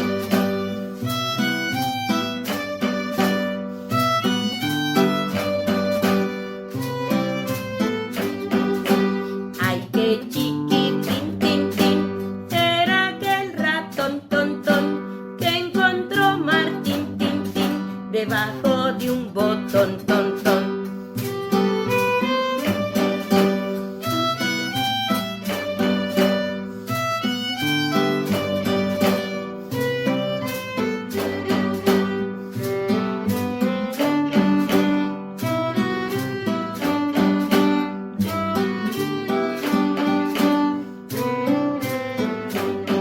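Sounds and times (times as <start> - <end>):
bowed string melody: 0.0 - 43.0
plucked guitar: 0.0 - 43.0
steady beat: 0.0 - 43.0.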